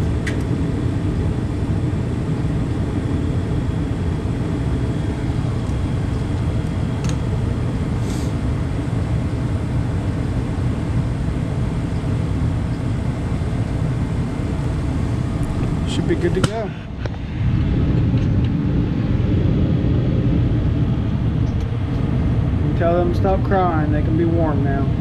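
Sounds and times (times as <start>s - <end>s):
gas furnace low rumble: 0.0s - 25.0s.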